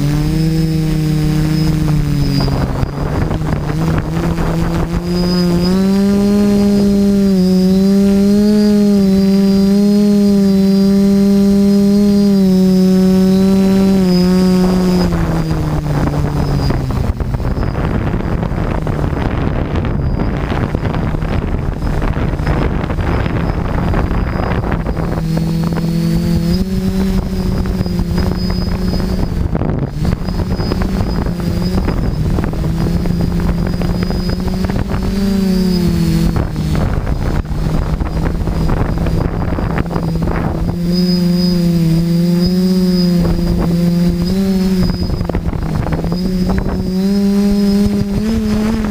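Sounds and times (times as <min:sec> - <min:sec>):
drone propellers humming: 0:00.0 - 0:48.9
high whine: 0:00.0 - 0:48.9
wind on microphone: 0:00.0 - 0:48.9.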